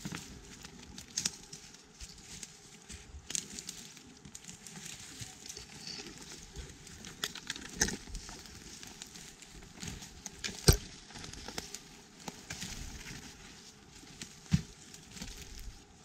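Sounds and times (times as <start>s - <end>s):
dry twigs crackling and snapping: 0.0s - 16.0s.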